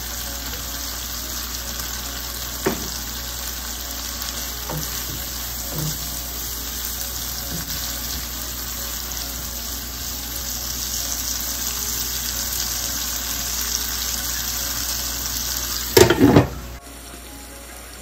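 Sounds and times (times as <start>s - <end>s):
curry sizzling in a skillet: 0.0s - 18.0s.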